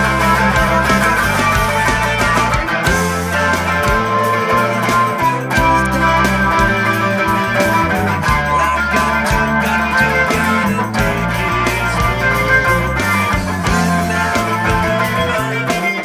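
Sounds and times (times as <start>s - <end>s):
low bass notes: 0.0s - 15.8s
electric guitar playing rock: 0.0s - 16.0s
steady beat: 0.0s - 16.0s.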